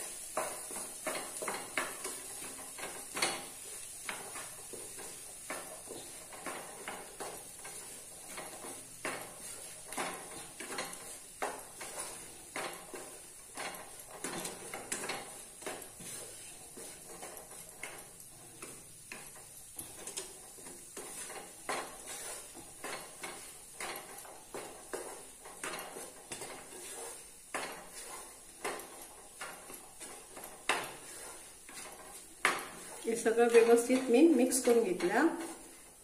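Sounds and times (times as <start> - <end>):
wooden spatula scraping frying pan: 0.0 - 36.0.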